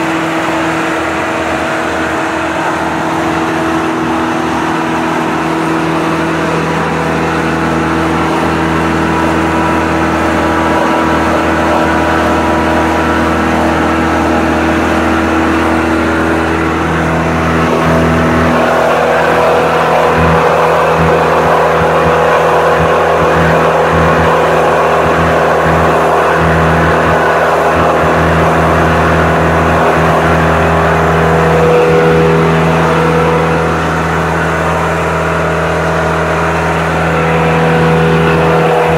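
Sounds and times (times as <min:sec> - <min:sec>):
wood chipper engine running: 0:00.0 - 0:38.9.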